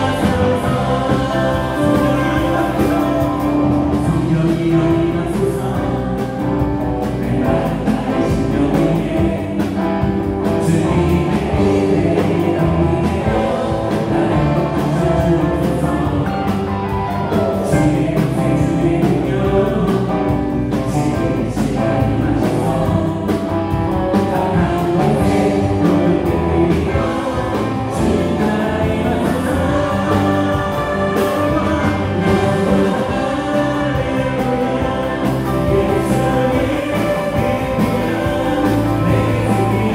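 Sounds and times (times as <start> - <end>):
bass guitar: 0.0 - 39.9
drums: 0.0 - 39.9
electric guitar: 0.0 - 39.9
keyboards: 0.0 - 39.9
voices singing: 0.0 - 39.9.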